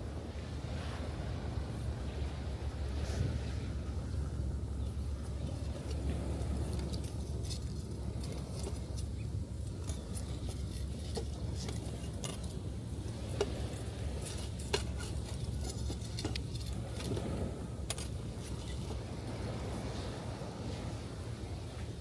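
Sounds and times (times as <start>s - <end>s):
surf rumbling on beach: 0.0s - 22.0s.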